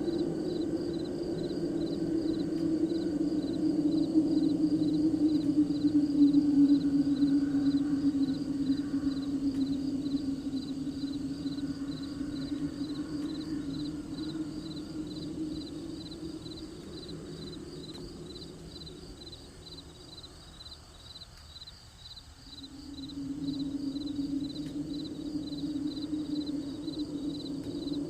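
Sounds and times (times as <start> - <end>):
low steady drone: 0.0 - 21.1, 22.2 - 28.0
crickets chirping: 0.0 - 28.0.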